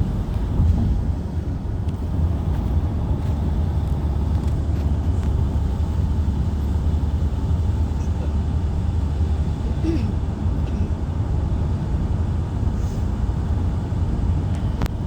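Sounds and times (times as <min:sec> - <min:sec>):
moving vehicle rumble: 0:00.0 - 0:15.0.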